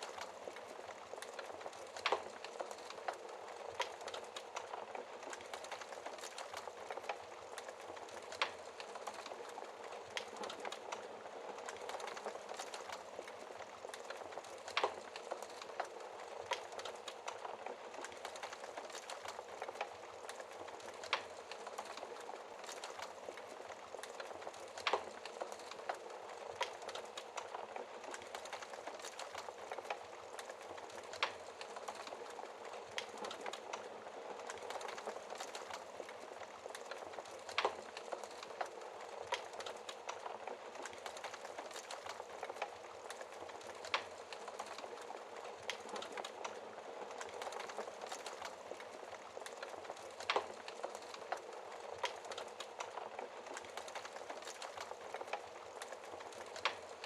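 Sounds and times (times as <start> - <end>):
fireplace logs crackling: 0.0 - 57.0.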